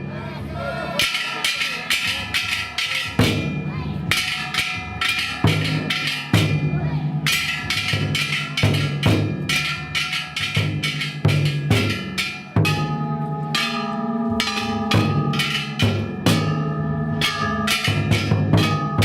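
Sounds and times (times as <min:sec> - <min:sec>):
deep drum beats: 0:01.0 - 0:19.0
metallic gong clanging: 0:01.0 - 0:19.0.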